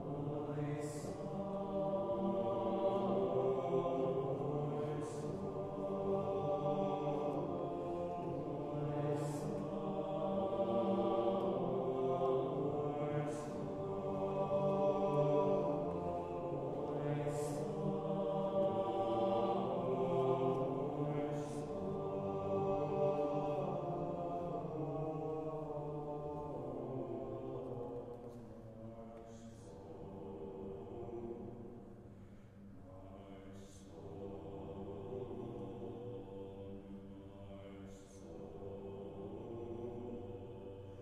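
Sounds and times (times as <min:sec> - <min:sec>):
a cappella choir singing: 0:00.0 - 0:41.0.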